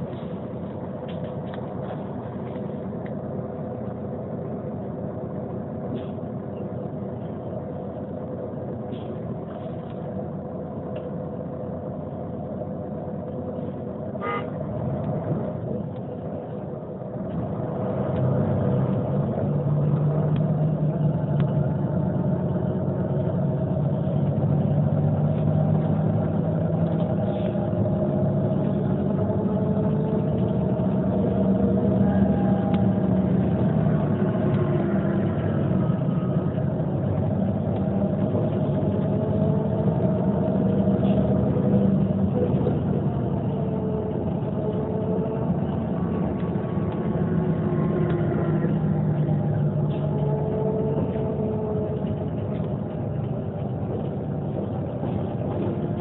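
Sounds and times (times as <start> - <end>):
bus drivetrain hum: 0.0 - 56.0.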